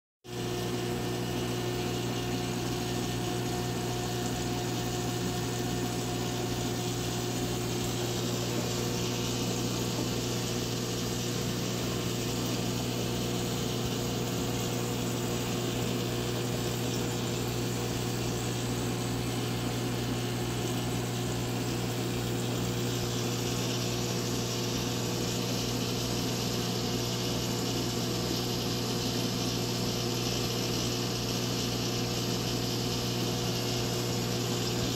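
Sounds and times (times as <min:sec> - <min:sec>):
aquarium pump humming: 0:00.3 - 0:34.9.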